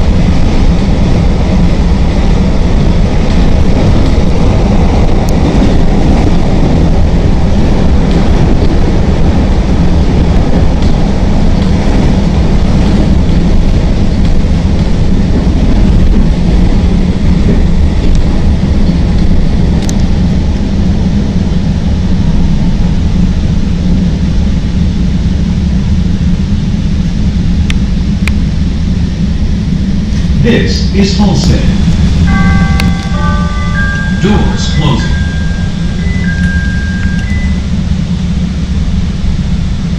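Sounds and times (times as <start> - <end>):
train rumble and rattle: 0.0 - 39.9.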